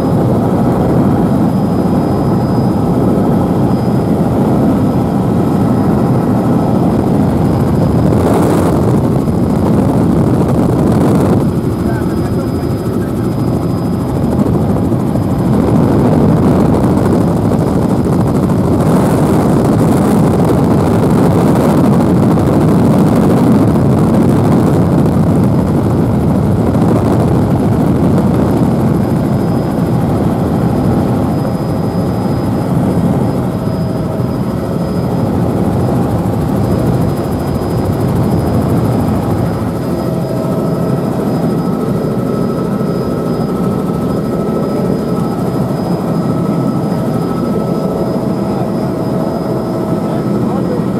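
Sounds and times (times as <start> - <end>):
faint high whine: 0.0 - 25.7, 26.3 - 50.9
helicopter engine and rotor: 0.0 - 50.9.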